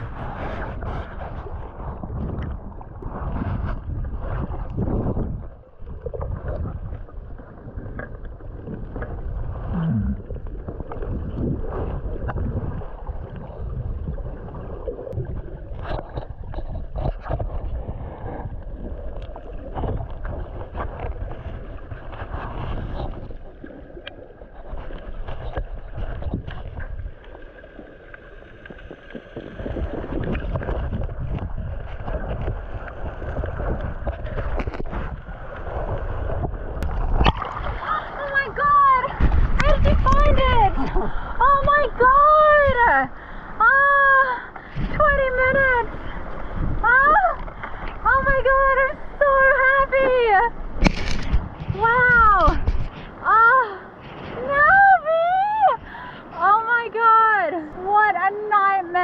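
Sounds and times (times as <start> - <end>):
underwater churning water rumble: 0.0 - 54.6.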